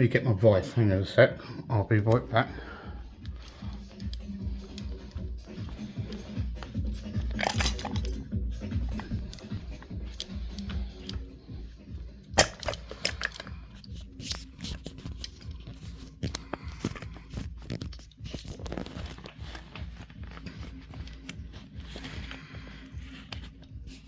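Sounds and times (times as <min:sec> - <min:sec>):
hard objects clicking and rattling: 0:03.1 - 0:11.6, 0:12.2 - 0:24.0.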